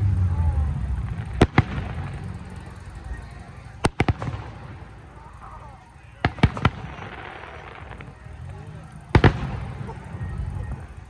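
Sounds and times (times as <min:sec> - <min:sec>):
fireworks bangs: 0:00.2 - 0:11.0.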